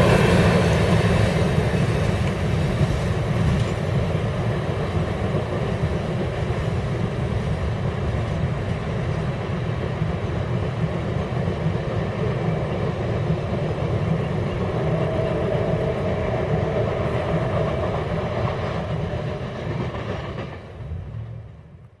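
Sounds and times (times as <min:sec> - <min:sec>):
steel wheels rumbling on rail: 0:00.0 - 0:22.0.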